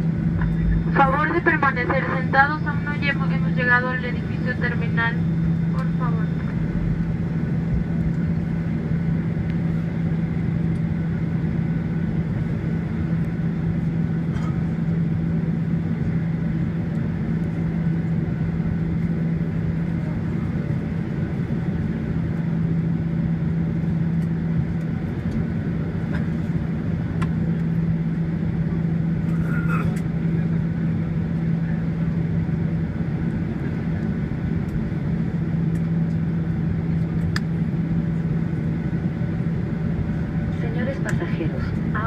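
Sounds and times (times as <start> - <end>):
airplane cabin hum: 0.0 - 42.0.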